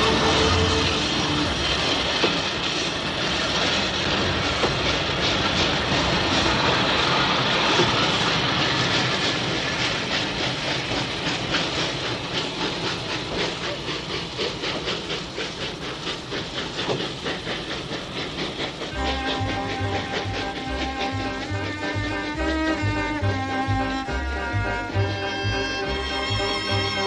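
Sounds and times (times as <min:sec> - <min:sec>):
train wheels clattering: 0:00.0 - 0:27.0.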